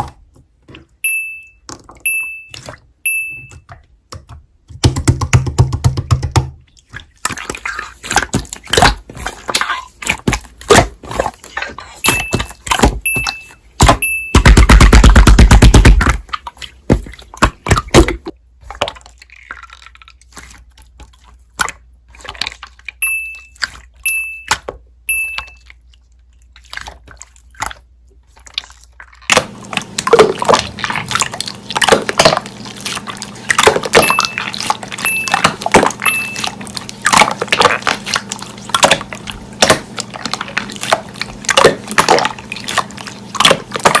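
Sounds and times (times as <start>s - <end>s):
slime squishing wet clicks: 2.1s - 4.7s, 6.6s - 44.0s.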